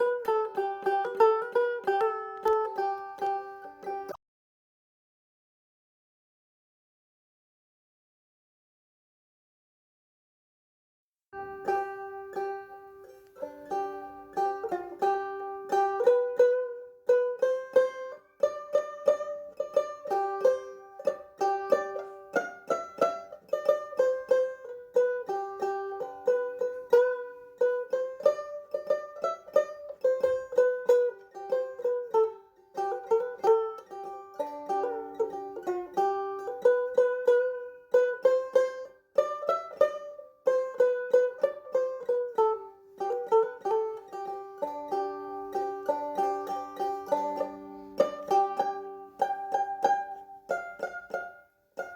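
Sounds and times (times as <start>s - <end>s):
plucked-string instrumental tune: 0.0s - 4.2s, 11.4s - 51.9s.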